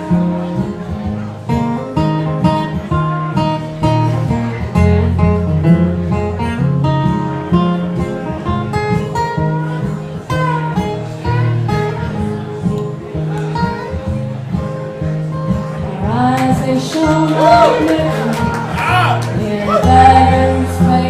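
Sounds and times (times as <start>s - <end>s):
picked acoustic guitar notes: 0.0s - 21.0s
strummed guitar chords: 0.0s - 21.0s.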